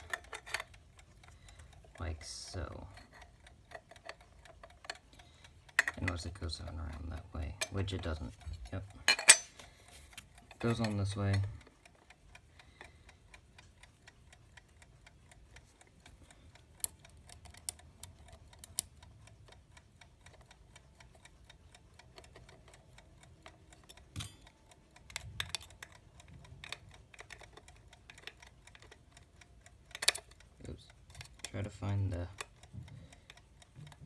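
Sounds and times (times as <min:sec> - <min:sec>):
clock ticking faintly: 0:00.0 - 0:34.0.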